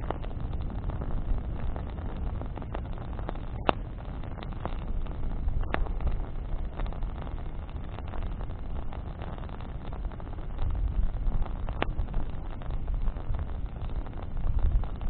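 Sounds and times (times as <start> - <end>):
bonfire crackling: 0.0 - 15.0
low rumble: 0.0 - 15.0
sharp fire pops: 0.0 - 15.0.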